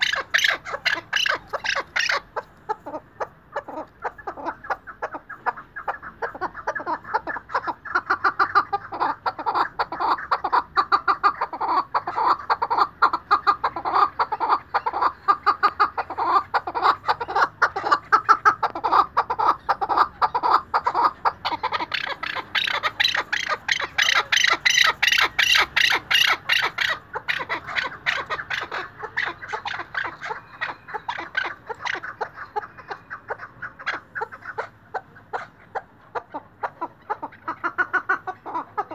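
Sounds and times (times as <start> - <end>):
partridge calling chuck notes: 0.0 - 38.9.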